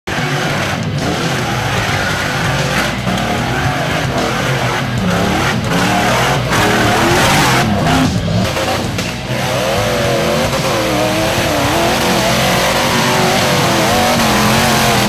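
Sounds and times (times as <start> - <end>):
buggy engine revving: 0.1 - 15.0.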